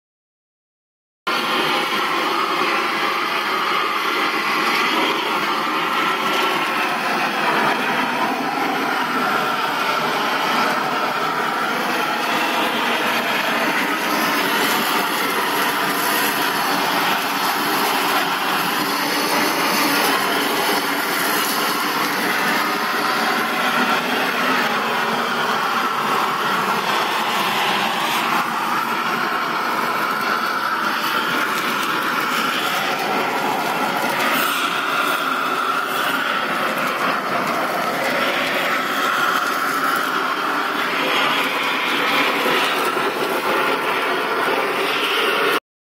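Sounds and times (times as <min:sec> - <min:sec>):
propane torch roaring: 0:01.3 - 0:45.6.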